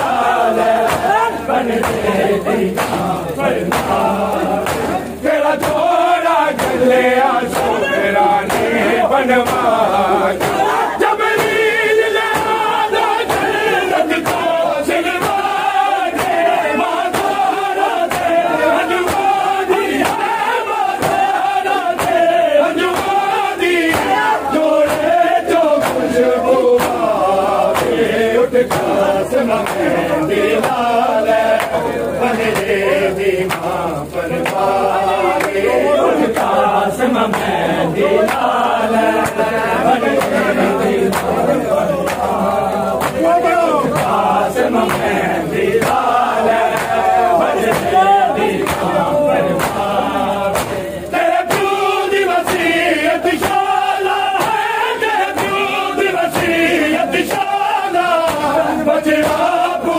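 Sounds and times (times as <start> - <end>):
men chanting in unison: 0.0 - 59.9.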